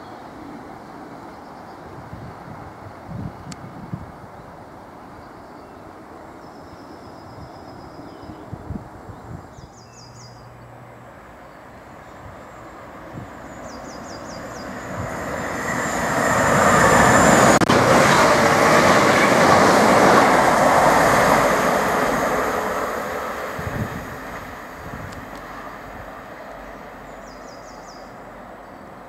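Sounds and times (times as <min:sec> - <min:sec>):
electric train passing on rails: 0:00.0 - 0:29.0.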